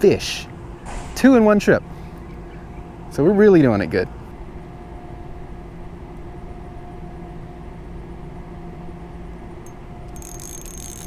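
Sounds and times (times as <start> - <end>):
engine-like hum with drone: 0.0 - 11.0.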